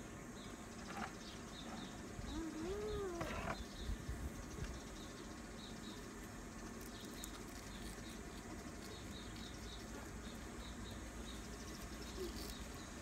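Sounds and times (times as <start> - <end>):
low outdoor background: 0.0 - 13.0
small birds chirping: 0.0 - 13.0.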